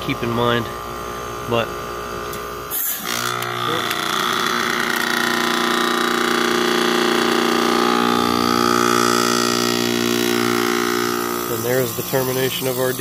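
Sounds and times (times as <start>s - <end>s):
heat pump compressor running: 0.0s - 13.0s.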